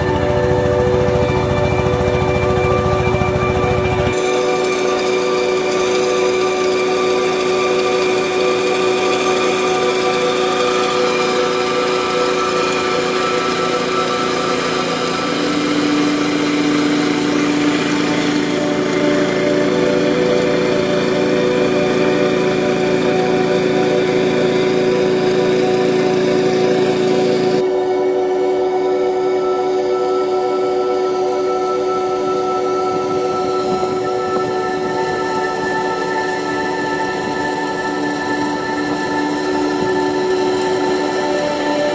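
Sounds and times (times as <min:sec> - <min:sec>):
combine harvester engine droning: 0:00.0 - 0:41.9.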